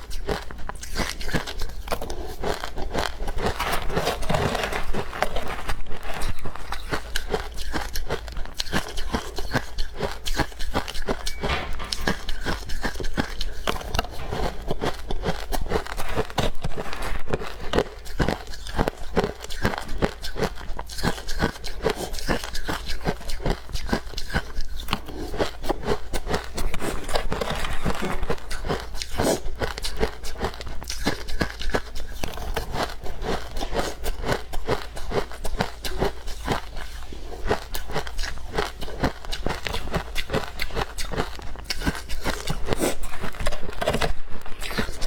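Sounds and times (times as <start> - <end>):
chewing frost crunches: 0.0 - 45.0.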